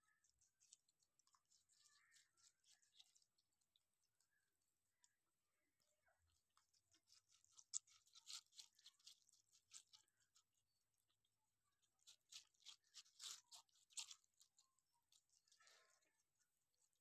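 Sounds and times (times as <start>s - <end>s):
rabbits crunching watermelon: 0.0s - 17.0s.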